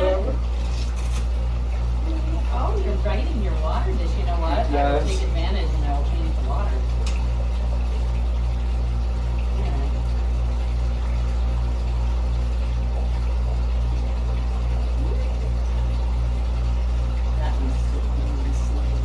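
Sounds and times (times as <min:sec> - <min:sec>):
low motor hum with fast pulse: 0:00.0 - 0:19.0.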